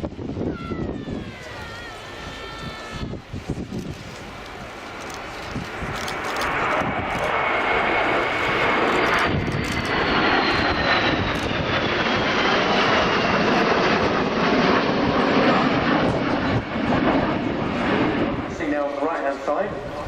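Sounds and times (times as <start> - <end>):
jets flying past: 0.0 - 20.0.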